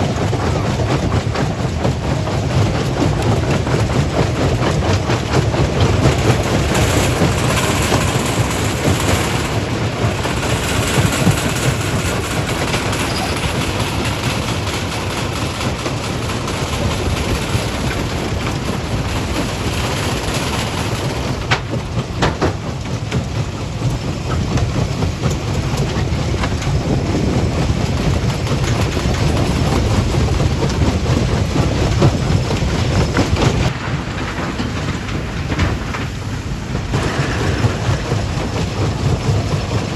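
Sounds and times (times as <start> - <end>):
rock rattling through crusher: 0.0 - 39.9.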